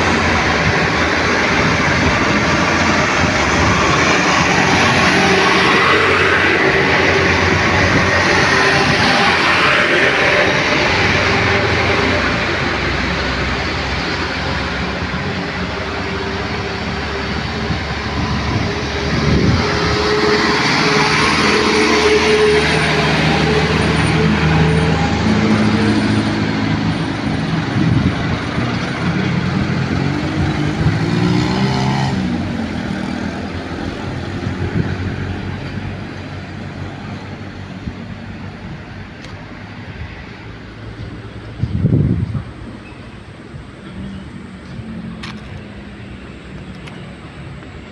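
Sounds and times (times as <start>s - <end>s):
truck engine revving: 0.0s - 40.0s
road traffic passing: 0.0s - 47.9s
truck engines: 0.0s - 47.9s.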